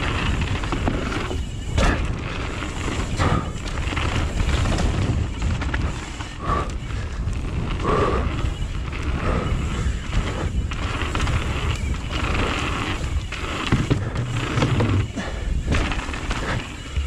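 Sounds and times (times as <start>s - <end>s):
bike tyres and frame rattling: 0.0s - 17.0s
wind rumble on microphone: 0.0s - 17.0s.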